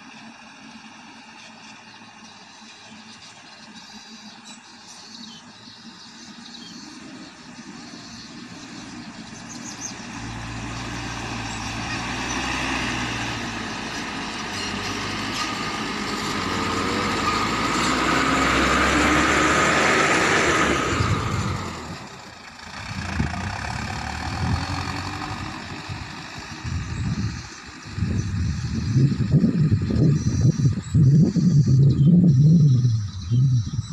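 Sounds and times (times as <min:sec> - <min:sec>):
truck diesel engine passing: 0:00.0 - 0:33.9.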